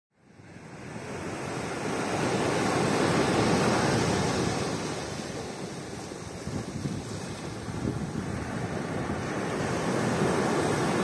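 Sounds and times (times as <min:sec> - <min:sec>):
sea surf washing onto beach: 0:00.4 - 0:11.0.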